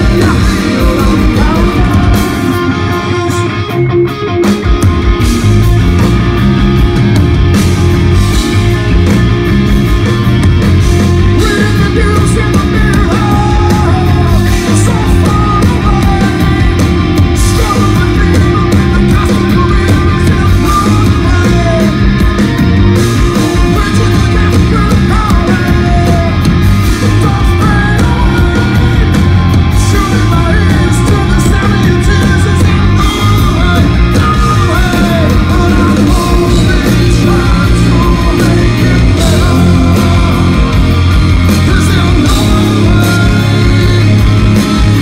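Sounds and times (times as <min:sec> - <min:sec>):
person singing: 0:00.0 - 0:03.9, 0:11.3 - 0:22.4, 0:23.1 - 0:45.0
bass guitar: 0:00.0 - 0:45.0
drum kit: 0:00.0 - 0:45.0
electric guitar: 0:00.0 - 0:45.0.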